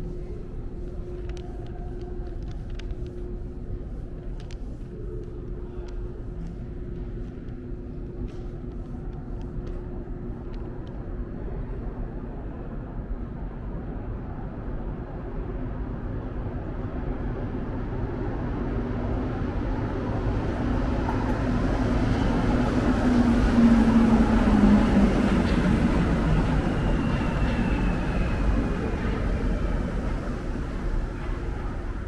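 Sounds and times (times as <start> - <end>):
train approaching through tunnel: 0.0 - 32.0.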